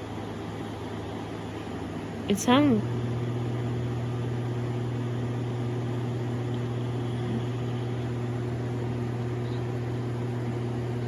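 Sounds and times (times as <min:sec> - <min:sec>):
air conditioner humming: 0:00.0 - 0:11.0
fan hiss: 0:00.0 - 0:11.0.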